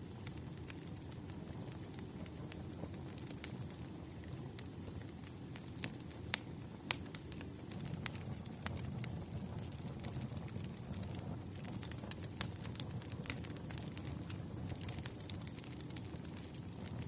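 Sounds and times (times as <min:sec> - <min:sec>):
wood fire crackling: 0:00.0 - 0:17.0
sharp fire pops and snaps: 0:00.2 - 0:17.0.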